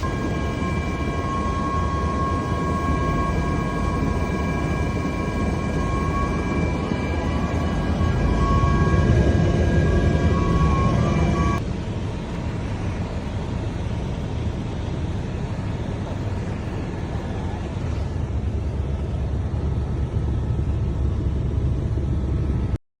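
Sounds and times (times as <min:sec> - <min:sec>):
helicopter engine and rotors: 0:00.0 - 0:22.8.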